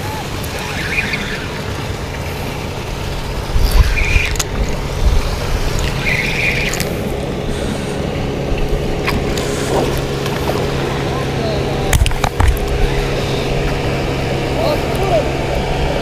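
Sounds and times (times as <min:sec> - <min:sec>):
low motor hum: 0:00.0 - 0:16.0
rumbling: 0:00.0 - 0:16.0.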